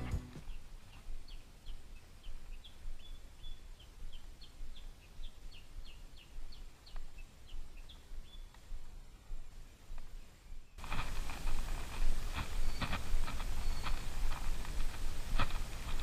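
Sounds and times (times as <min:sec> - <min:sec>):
bird chirping: 0:00.0 - 0:10.9, 0:12.4 - 0:14.4.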